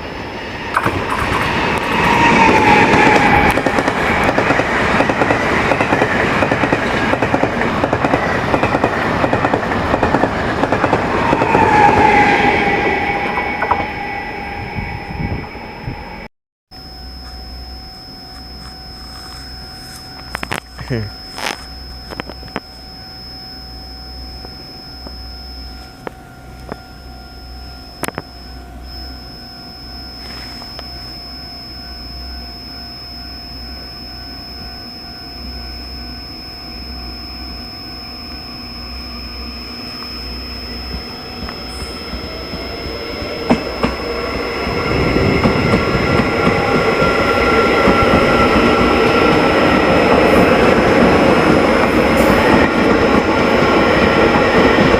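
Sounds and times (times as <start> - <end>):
train approaching: 0.0 - 16.3, 17.2 - 54.9
steady high-pitched tone: 0.0 - 54.9.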